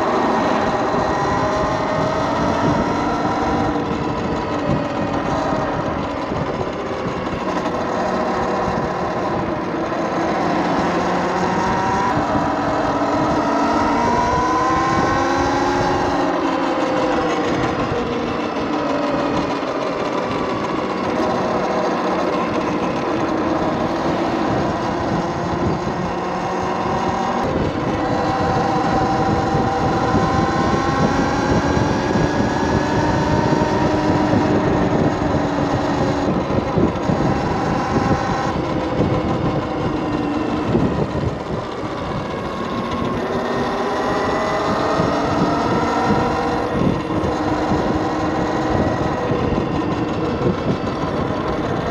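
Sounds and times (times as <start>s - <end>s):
electric motor whine: 0.0s - 51.9s
tyres on road: 0.0s - 51.9s
wind on microphone: 0.0s - 51.9s.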